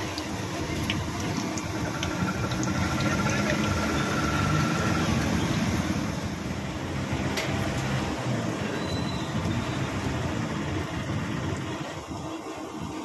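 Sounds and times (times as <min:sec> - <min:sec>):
oil sizzling while deep-frying: 0:00.0 - 0:13.0.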